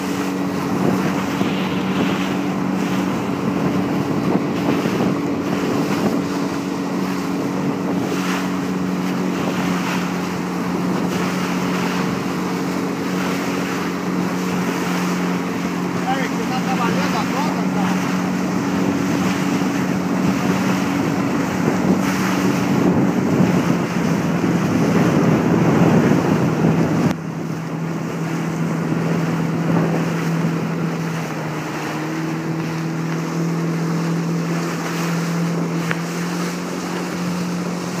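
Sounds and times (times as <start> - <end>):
motorboat engine running: 0.0 - 38.0
water rushing past hull: 0.0 - 38.0
wind buffeting microphone: 0.0 - 38.0.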